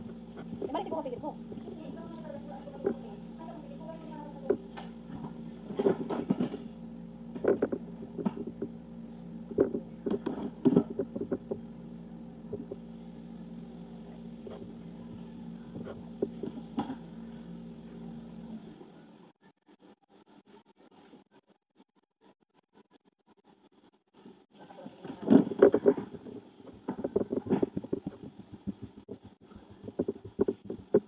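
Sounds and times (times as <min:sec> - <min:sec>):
low mechanical hum: 0:00.0 - 0:21.5, 0:22.8 - 0:31.0.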